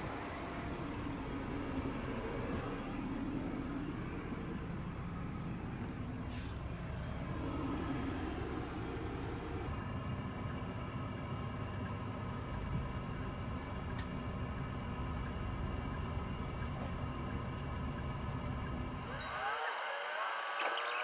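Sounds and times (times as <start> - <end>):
bus engine and tyres rumbling: 0.0 - 21.0.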